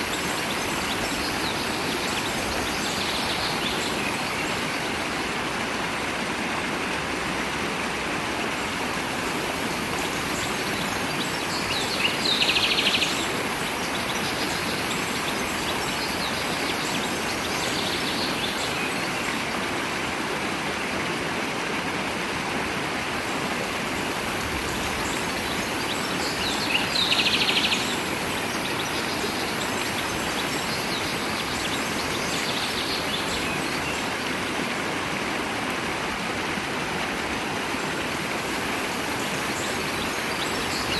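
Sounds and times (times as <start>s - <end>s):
flowing stream: 0.0s - 40.9s.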